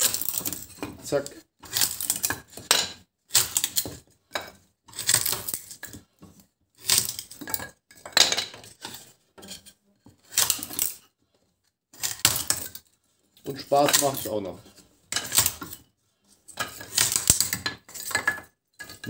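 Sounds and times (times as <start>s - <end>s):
wood splitting and clattering: 0.0s - 9.6s, 10.2s - 11.1s, 11.9s - 15.8s, 16.5s - 19.0s.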